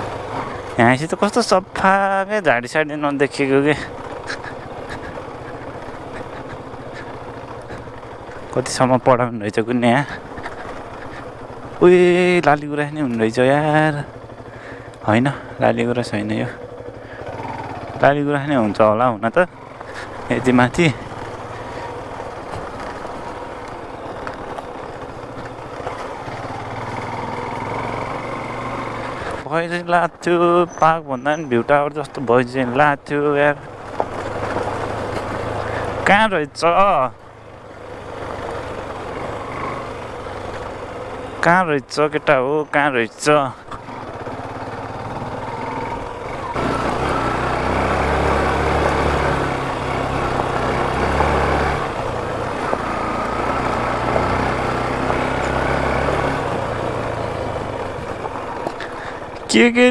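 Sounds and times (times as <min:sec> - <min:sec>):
motorcycle engine running: 0:00.0 - 0:29.5, 0:30.4 - 0:59.8.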